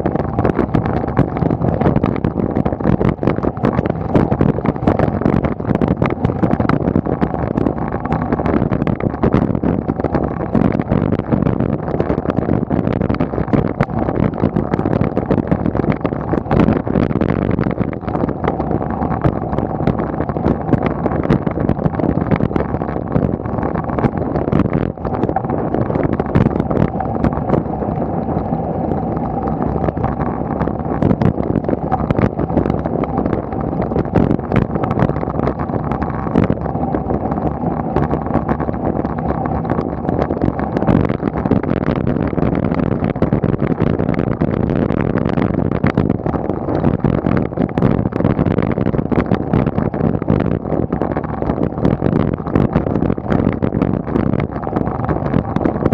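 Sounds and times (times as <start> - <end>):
tyre and road rumble: 0.0 - 55.9
wind buffeting microphone: 0.0 - 55.9.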